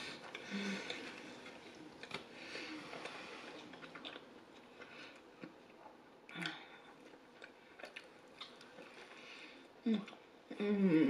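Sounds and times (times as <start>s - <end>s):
chewing with mouth clicks: 0.2s - 9.2s.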